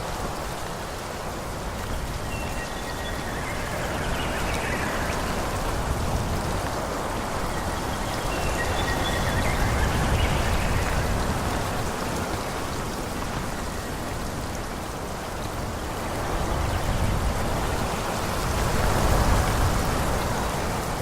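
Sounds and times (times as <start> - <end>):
wind rushing through trees: 0.0 - 21.0.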